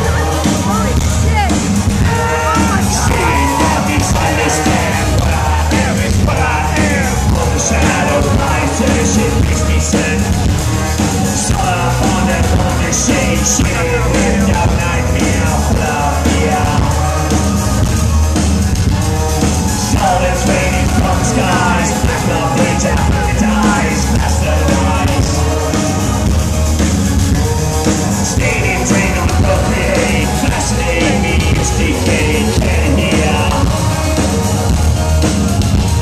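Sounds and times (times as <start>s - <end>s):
bass-heavy electronic backing: 0.0s - 36.0s
person singing: 2.0s - 18.4s, 19.5s - 26.6s, 27.4s - 35.2s.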